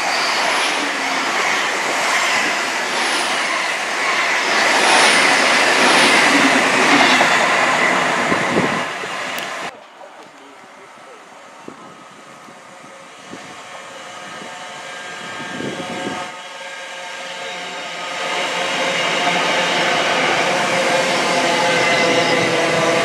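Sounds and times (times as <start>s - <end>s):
train wheels rushing on rails: 0.0s - 23.0s
train whining tones: 0.0s - 23.0s.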